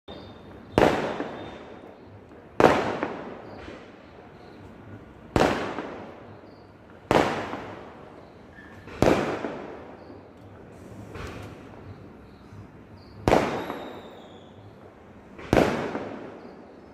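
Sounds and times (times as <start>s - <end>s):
fireworks bangs: 0.1s - 16.9s.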